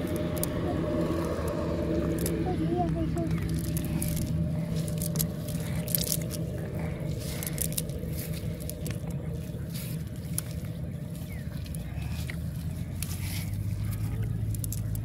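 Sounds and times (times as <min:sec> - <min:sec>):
fishing net rustling and crackling: 0:00.0 - 0:15.0
steady low hum: 0:00.0 - 0:15.0.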